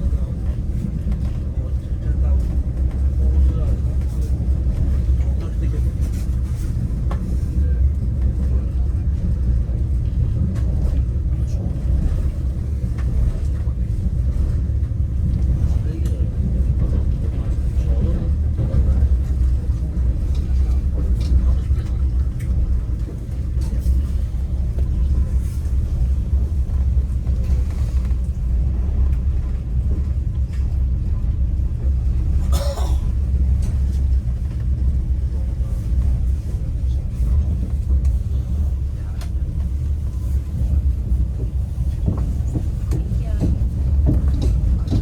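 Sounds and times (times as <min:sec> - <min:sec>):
train carriage low rumble: 0:00.0 - 0:45.0.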